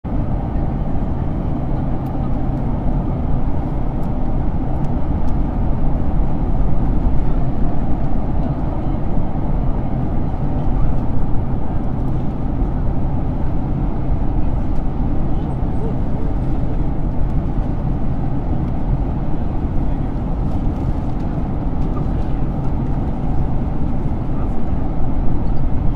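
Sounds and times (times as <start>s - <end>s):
airplane engines and airflow rumble: 0.0s - 25.9s.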